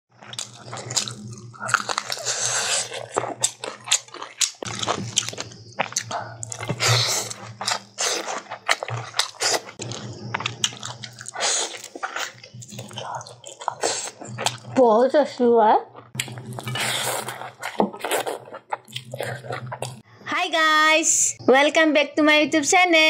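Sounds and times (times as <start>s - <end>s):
person chewing food: 0.2s - 14.8s, 16.0s - 20.1s
wet mouth sounds: 0.2s - 14.8s, 16.0s - 20.1s.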